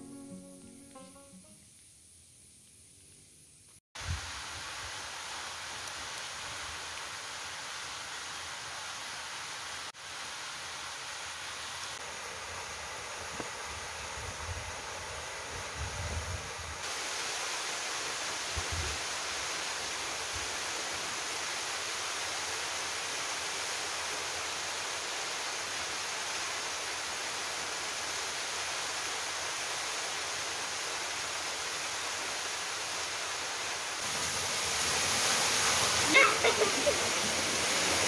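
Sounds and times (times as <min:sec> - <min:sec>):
distant waterfall rushing: 0:04.0 - 0:15.8, 0:16.5 - 0:38.0.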